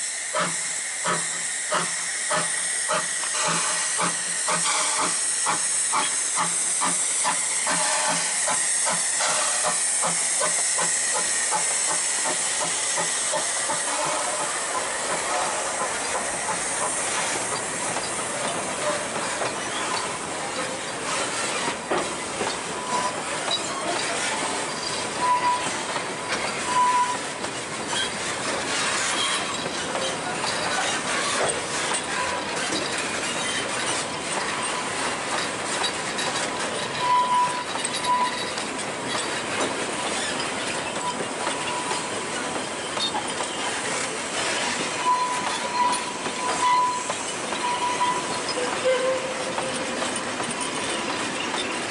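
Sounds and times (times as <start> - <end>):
train wheels rumbling: 0.0 - 51.9
wheels clicking over rail joints: 2.9 - 51.9
wheel flanges squealing: 7.6 - 51.9.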